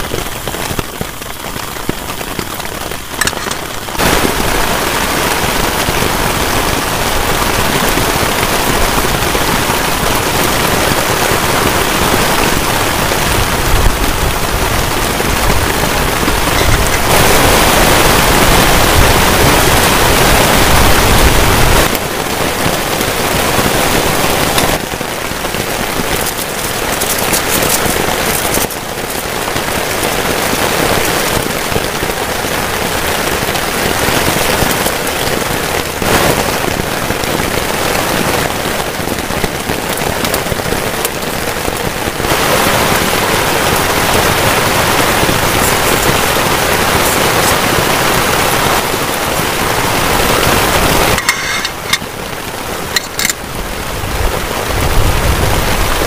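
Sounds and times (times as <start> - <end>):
heavy rain on a tarp: 0.0 - 56.0.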